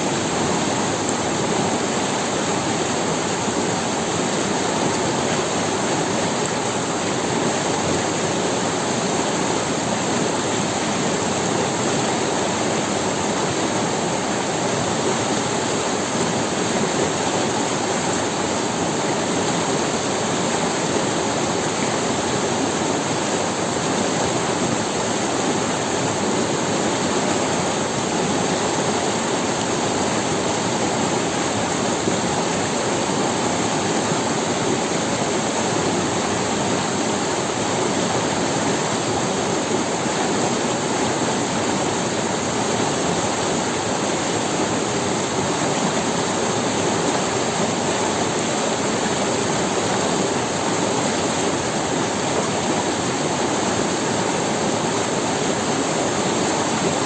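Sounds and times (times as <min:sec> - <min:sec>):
river water rushing over stones: 0:00.0 - 0:57.0.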